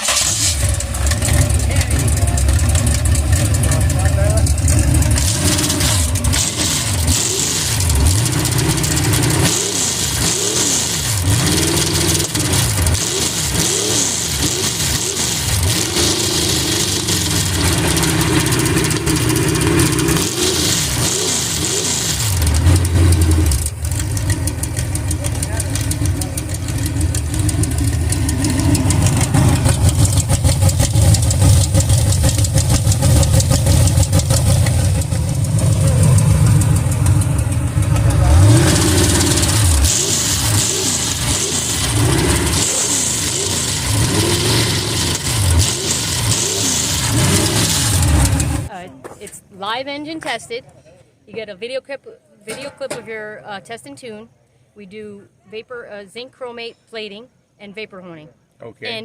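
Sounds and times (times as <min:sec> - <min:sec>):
engine revving: 0:00.0 - 0:48.7.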